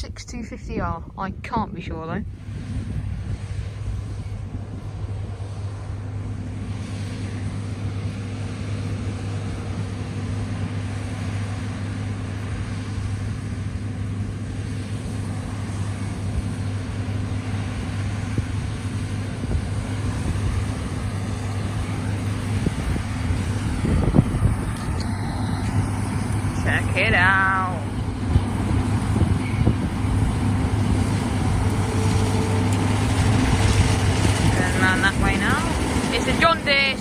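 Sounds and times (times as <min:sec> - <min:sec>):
combine harvester engine drone: 0:00.0 - 0:37.0.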